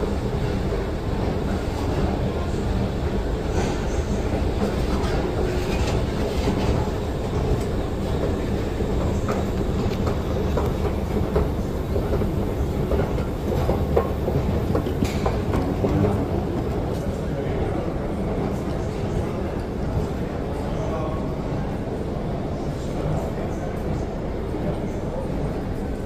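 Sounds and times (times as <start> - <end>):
low rumble of railway station: 0.0 - 26.0.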